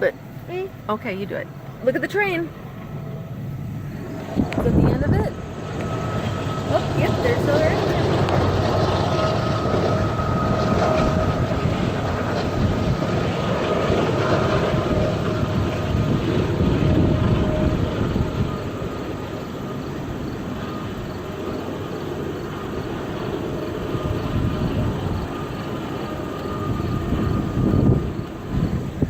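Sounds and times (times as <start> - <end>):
faint steady whine: 0.0 - 29.0
train rumbling past: 0.0 - 29.0.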